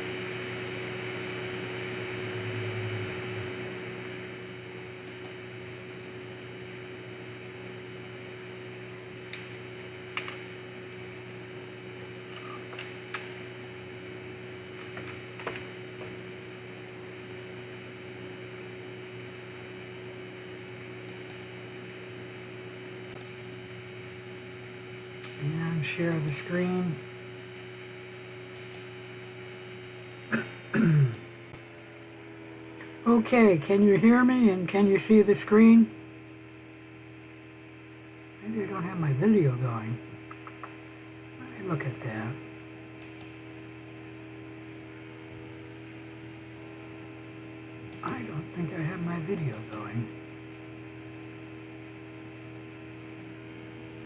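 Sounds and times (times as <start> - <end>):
electrical hum and hiss: 0.0 - 54.0.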